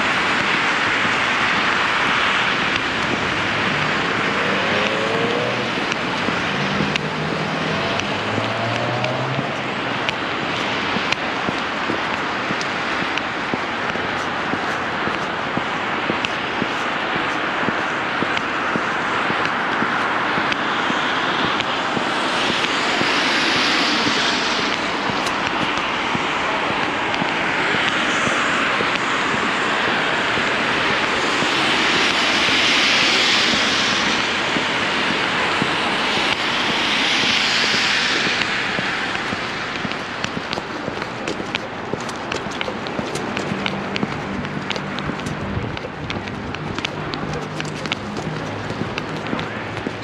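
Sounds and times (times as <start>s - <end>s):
car tyres hissing on snowy road: 0.0s - 50.0s
faint footsteps: 0.0s - 50.0s
rushing street traffic noise: 0.0s - 50.0s
vehicle engine hum: 0.0s - 50.0s.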